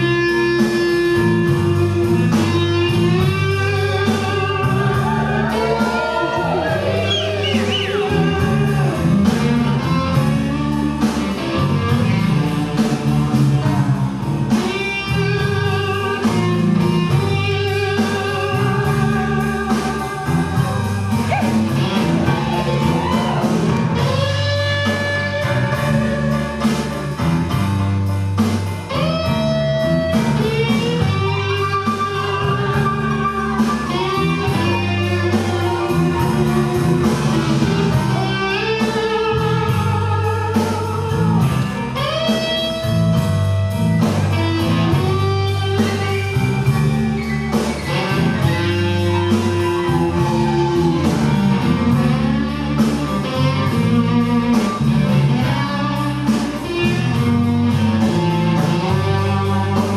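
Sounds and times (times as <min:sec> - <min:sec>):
bass line: 0:00.0 - 0:59.9
blues guitar: 0:00.0 - 0:59.9
steady beat: 0:00.0 - 0:59.9.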